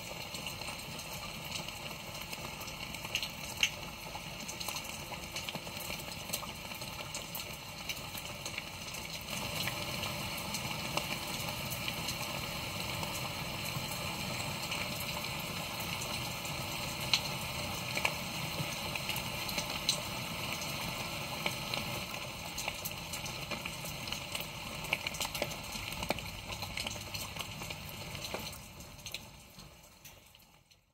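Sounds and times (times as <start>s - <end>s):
crackling hiss with faint clicks: 0.0s - 30.9s.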